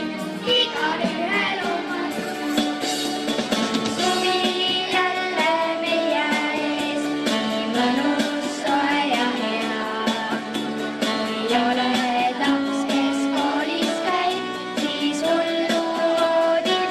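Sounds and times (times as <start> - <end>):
children and woman singing: 0.0 - 2.6, 3.6 - 16.9
upbeat backing track: 0.0 - 16.9.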